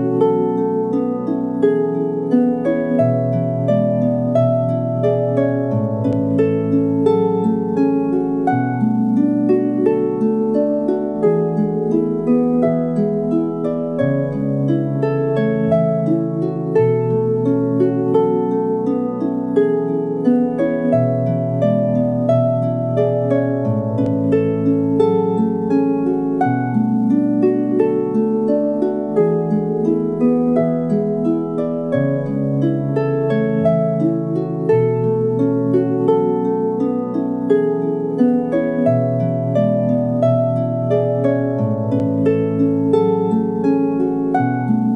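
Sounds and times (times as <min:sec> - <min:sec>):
plucked lyre strings: 0:00.0 - 0:44.9.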